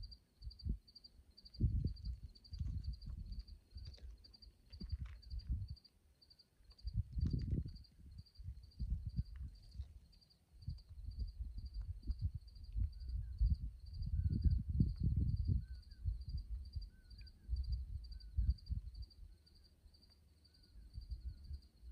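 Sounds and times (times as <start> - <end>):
wind buffeting microphone: 0.0 - 0.8, 1.5 - 5.8, 6.8 - 19.4, 20.8 - 21.9
insect chirping: 0.0 - 21.9.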